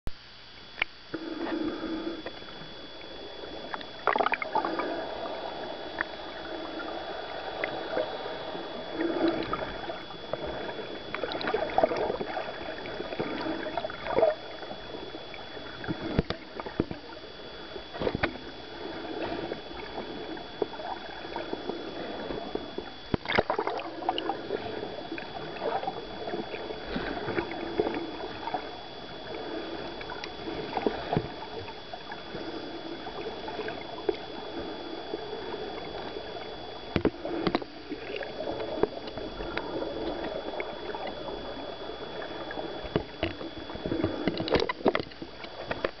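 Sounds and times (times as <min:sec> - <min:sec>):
thin high whine: 0:00.1 - 0:46.0
underwater water gurgling: 0:00.1 - 0:46.0.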